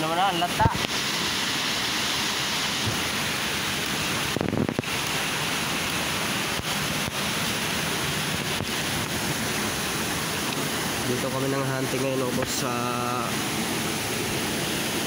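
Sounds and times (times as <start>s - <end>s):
creek rushing over stones: 0.0s - 15.0s
small waterfall: 0.0s - 15.0s.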